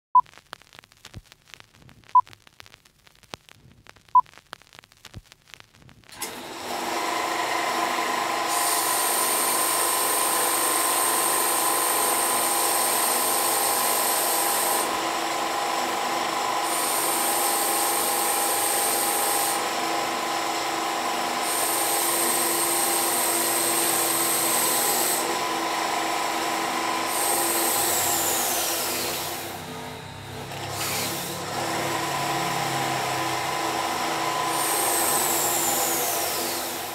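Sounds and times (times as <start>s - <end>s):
belt sander running: 6.2s - 36.9s.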